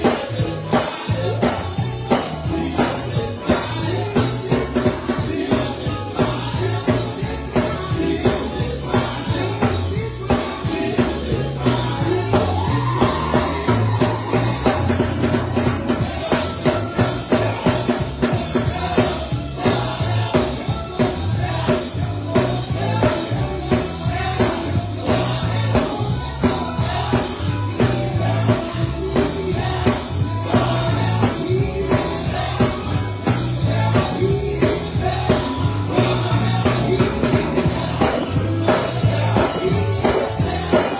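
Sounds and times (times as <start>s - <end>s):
live gospel band playing: 0.0s - 40.9s
voices singing: 0.0s - 40.9s.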